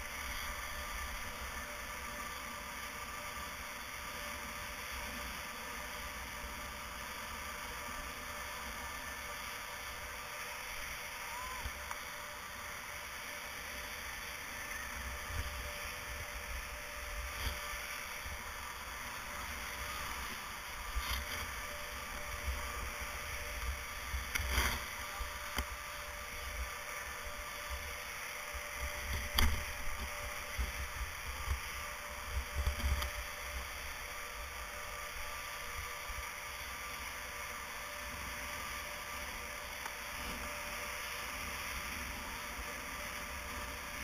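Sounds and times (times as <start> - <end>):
steady rushing hiss: 0.0 - 44.0.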